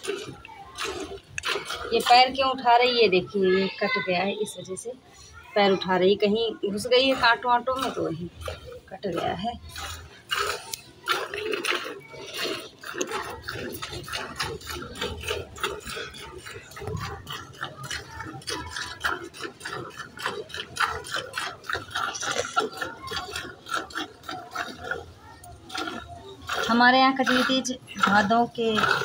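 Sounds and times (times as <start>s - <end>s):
milk squirting into steel pail: 0.0s - 29.0s.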